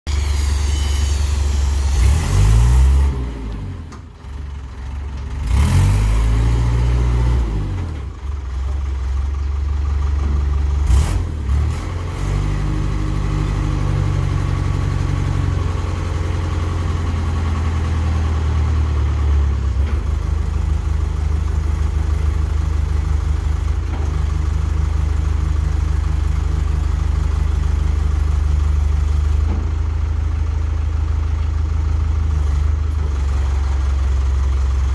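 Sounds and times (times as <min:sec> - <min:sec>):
diesel engine revving and idling: 0:00.1 - 0:34.9.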